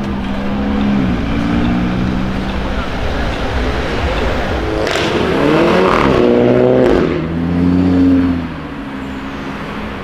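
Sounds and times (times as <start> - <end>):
sports car engine accelerating: 0.0 - 9.8.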